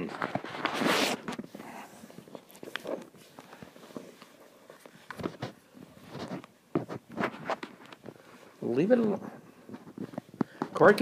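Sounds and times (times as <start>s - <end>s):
puppy paws scratching on rug: 0.0s - 11.0s.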